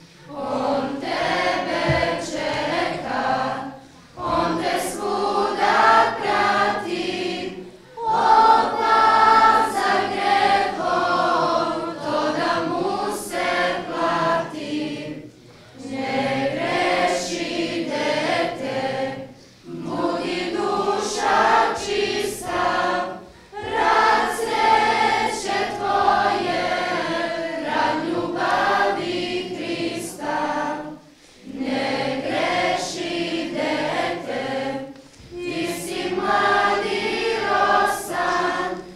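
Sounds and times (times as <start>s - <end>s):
church choir singing: 0.0s - 38.9s.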